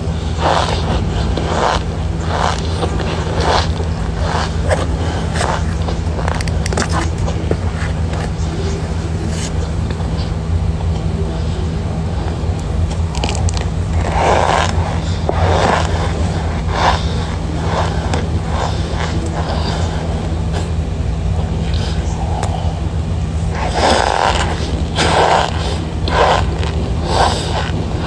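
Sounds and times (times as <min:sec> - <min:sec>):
crunching cornstarch chunks: 0:00.0 - 0:28.0
low hum: 0:00.0 - 0:28.0.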